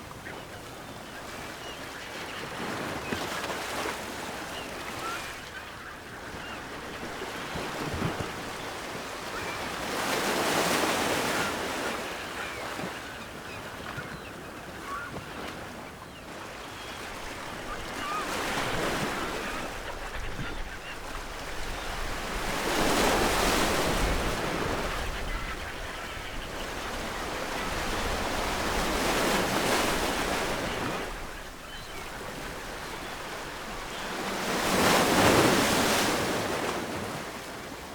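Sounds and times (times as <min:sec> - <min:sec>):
ocean waves breaking on shore: 0:00.0 - 0:37.9
distant gulls calling: 0:00.1 - 0:36.6.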